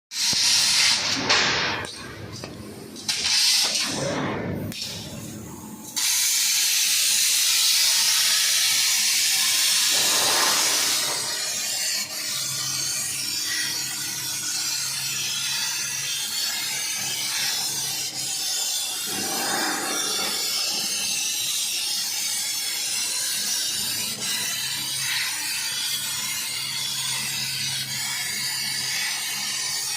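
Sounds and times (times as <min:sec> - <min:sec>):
laser cutter hissing: 0:00.2 - 0:01.9, 0:03.0 - 0:29.9.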